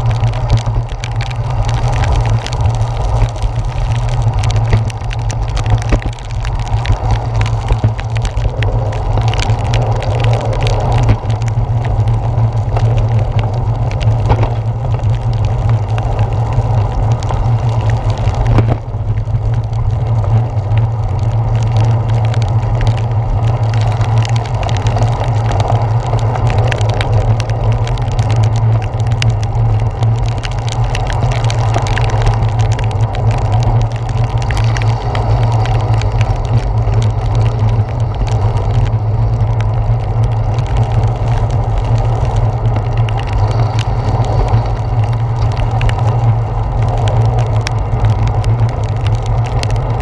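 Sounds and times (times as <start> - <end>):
low rumble of wind and road: 0.0 - 50.0
small taps and clicks: 0.1 - 50.0.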